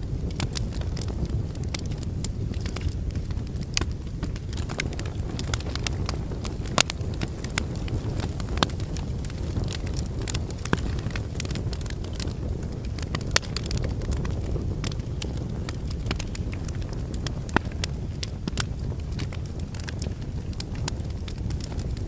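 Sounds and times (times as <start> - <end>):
fire low rumble: 0.0 - 22.0
fireplace logs crackling: 0.0 - 22.0.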